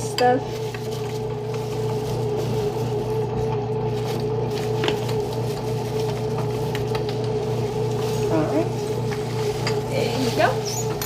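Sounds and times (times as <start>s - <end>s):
bread machine motor humming: 0.0s - 11.0s.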